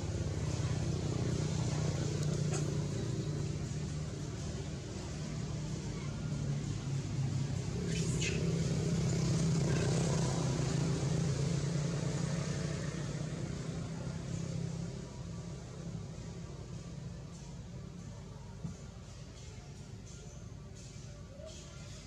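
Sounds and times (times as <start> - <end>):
vehicle engine running: 0.0 - 21.3.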